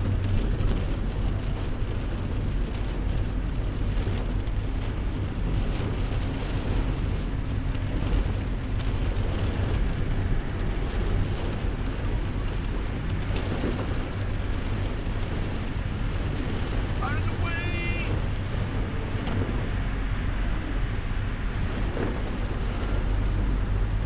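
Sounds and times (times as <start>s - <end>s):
low thunder rumble: 0.0s - 17.4s, 18.0s - 24.0s
rain hissing: 0.0s - 24.0s.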